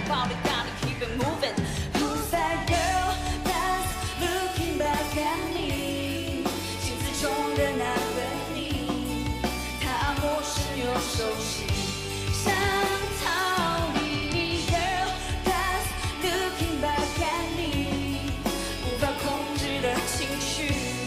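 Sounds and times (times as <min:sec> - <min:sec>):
rock band playing: 0:00.0 - 0:21.0
woman singing pop-rock: 0:00.0 - 0:21.0.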